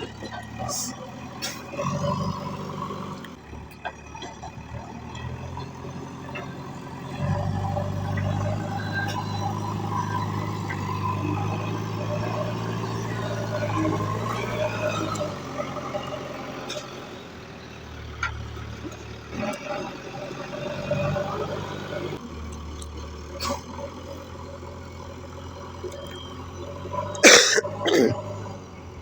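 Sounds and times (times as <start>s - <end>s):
heavy diesel engines running: 0.0s - 29.0s.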